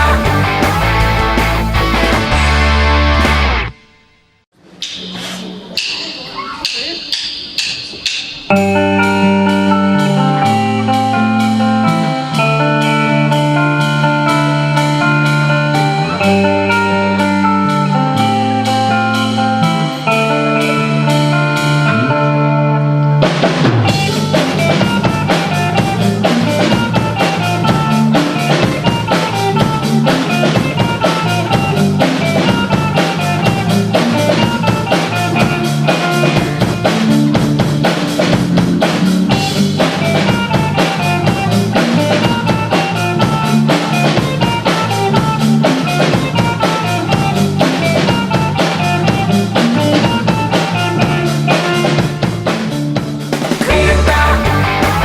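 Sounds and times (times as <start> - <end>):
drum kit beat: 0.0 - 3.8, 4.6 - 22.0, 23.2 - 55.0
electric guitars: 0.0 - 4.0, 8.5 - 55.0.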